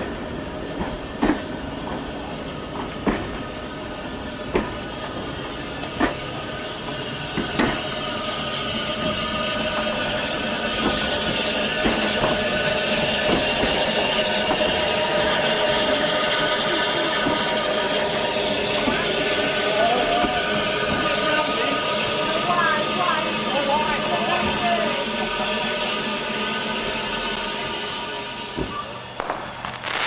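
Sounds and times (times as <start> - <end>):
train wheels clacking over rail joints: 0.0 - 29.7.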